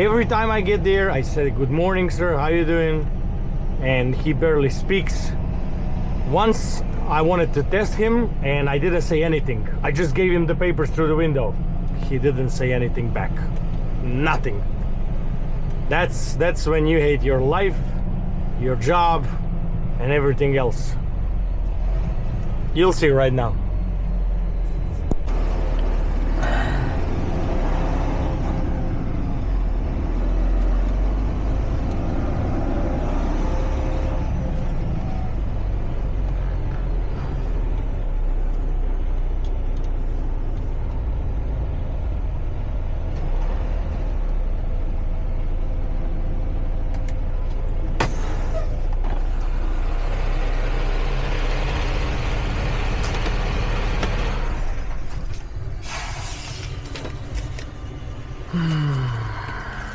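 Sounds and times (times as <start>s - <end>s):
diesel truck engine rumbling: 0.0s - 59.9s.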